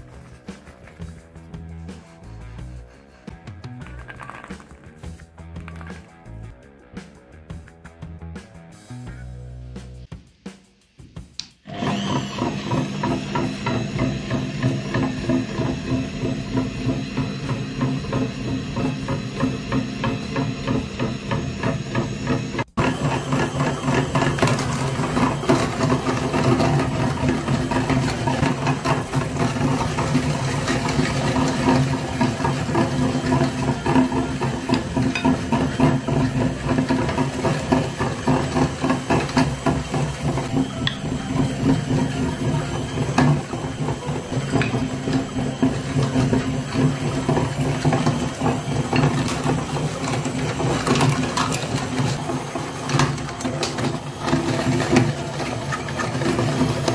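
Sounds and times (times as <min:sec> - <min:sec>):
meat grinder rattling and humming: 0:00.0 - 0:06.5, 0:11.7 - 0:56.9.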